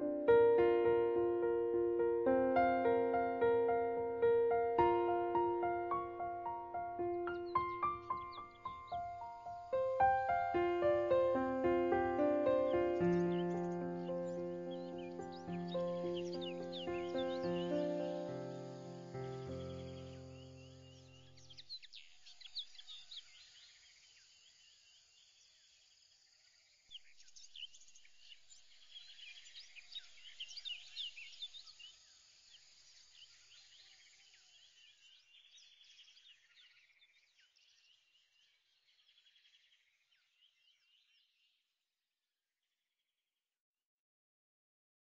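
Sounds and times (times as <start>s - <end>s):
small birds chirping: 0.0s - 41.7s.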